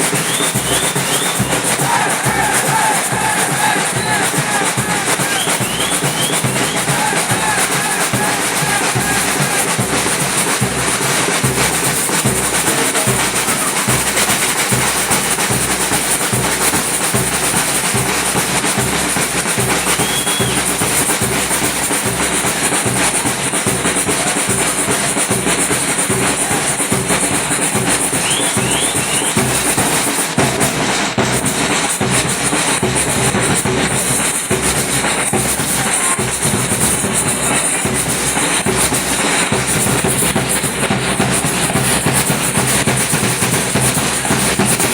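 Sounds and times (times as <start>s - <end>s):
bass drums pounding: 0.0s - 44.9s
samba drum section: 0.0s - 44.9s.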